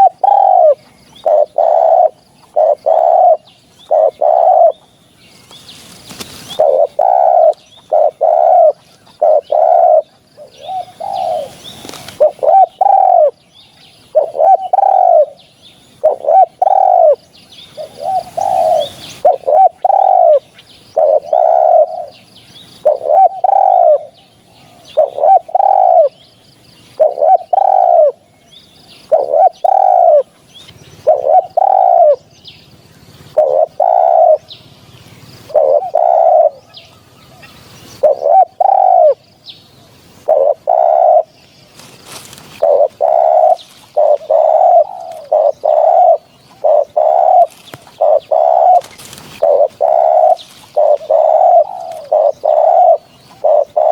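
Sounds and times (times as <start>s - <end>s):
dove cooing: 0.0s - 4.9s, 5.9s - 26.2s, 26.8s - 28.3s, 29.0s - 39.2s, 40.1s - 53.9s.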